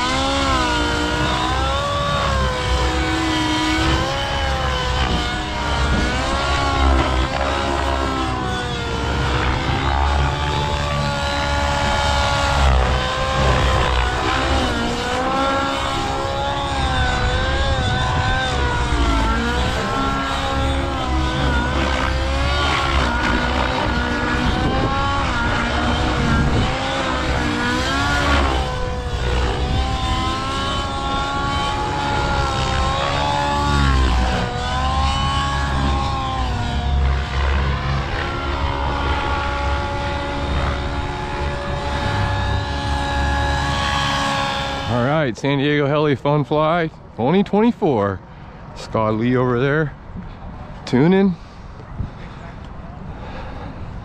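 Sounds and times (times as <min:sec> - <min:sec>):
model helicopter rotor whine: 0:00.0 - 0:49.8
steady low rumble: 0:00.0 - 0:54.0.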